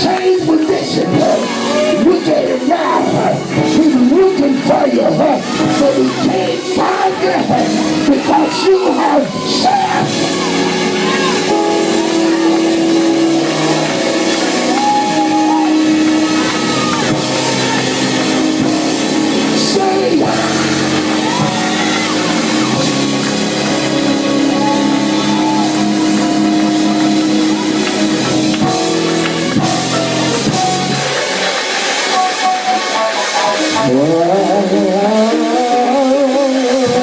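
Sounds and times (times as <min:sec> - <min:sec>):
person singing: 0:00.0 - 0:27.8, 0:32.2 - 0:37.0
live band playing: 0:00.0 - 0:37.0.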